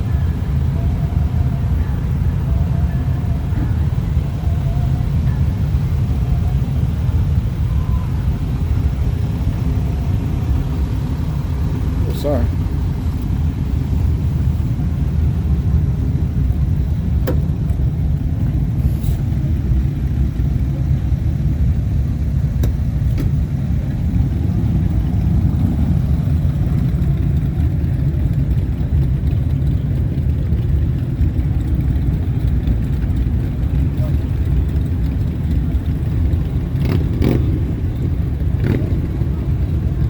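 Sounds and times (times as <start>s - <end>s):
vehicle engine and road rumble: 0.0s - 40.0s.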